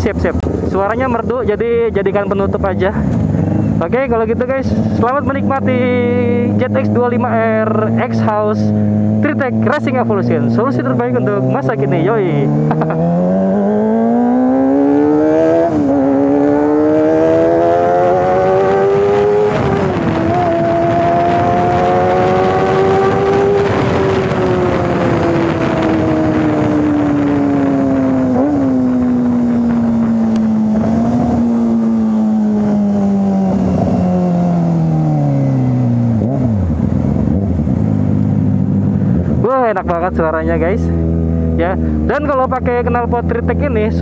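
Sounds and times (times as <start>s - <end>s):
motorcycle engine revving: 0.5s - 44.0s.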